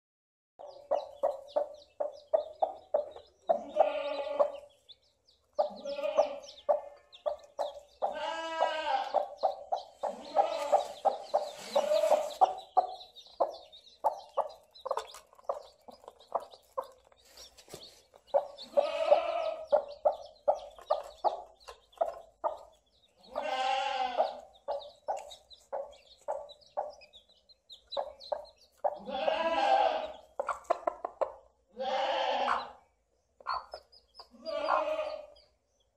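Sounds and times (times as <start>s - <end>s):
chicks peeping: 0.6s - 31.7s, 32.4s - 35.9s
hen clucking: 0.6s - 35.5s.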